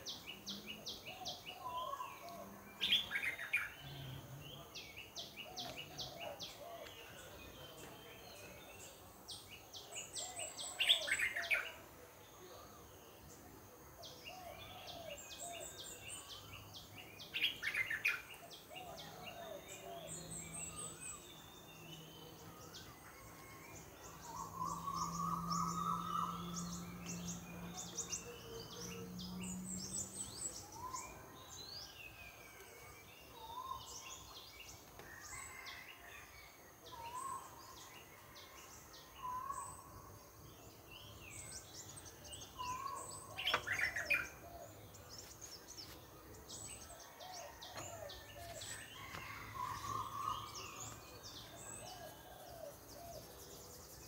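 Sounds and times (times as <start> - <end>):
wild birds calling and chirping: 0.0 - 54.0.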